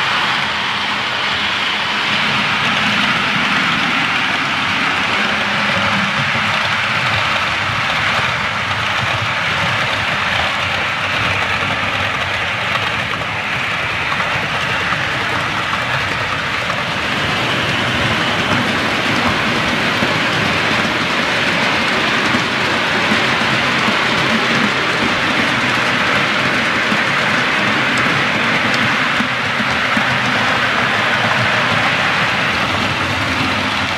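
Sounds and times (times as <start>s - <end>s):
model train wheels rumbling on rails: 0.0s - 33.9s.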